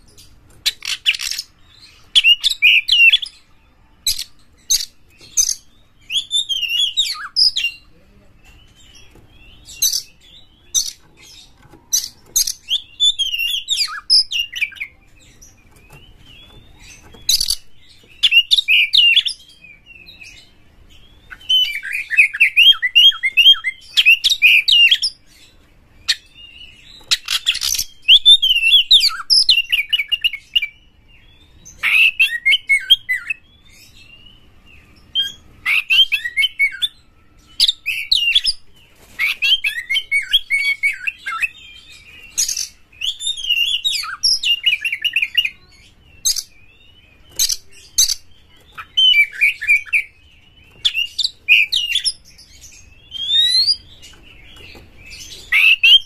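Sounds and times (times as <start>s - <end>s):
bird singing whistles and trills: 0.1s - 7.8s, 8.4s - 56.0s.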